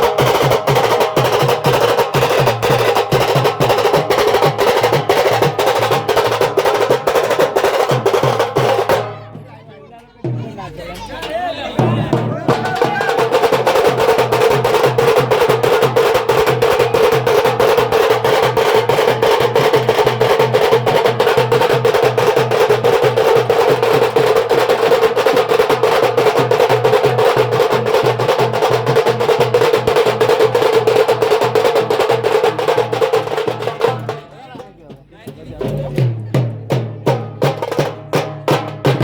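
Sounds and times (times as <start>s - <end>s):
fast drum rhythm: 0.0s - 39.0s.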